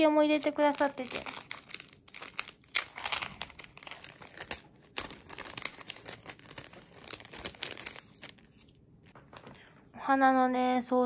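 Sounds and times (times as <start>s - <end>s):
plastic wrapping and paper crinkling: 0.2s - 9.8s.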